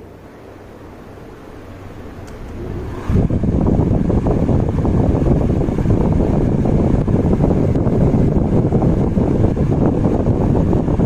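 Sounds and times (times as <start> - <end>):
table fan airflow on microphone: 0.0 - 11.0.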